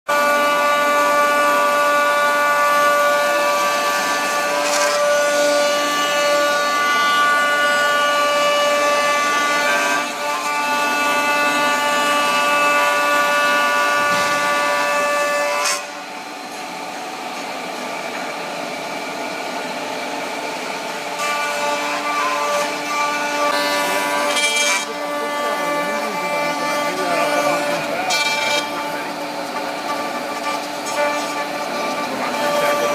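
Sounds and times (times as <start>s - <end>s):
router spindles whining: 0.1s - 32.9s
wood cutting noise: 0.1s - 32.9s.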